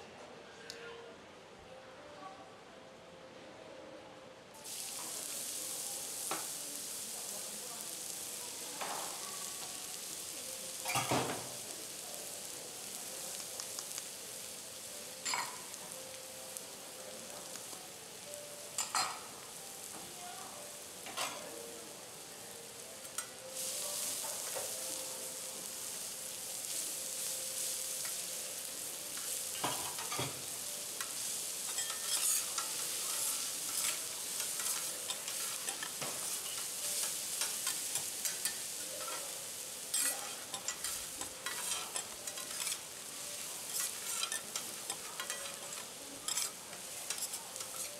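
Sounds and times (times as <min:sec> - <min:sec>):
garlic sizzling in hot oil: 0:04.6 - 0:47.9.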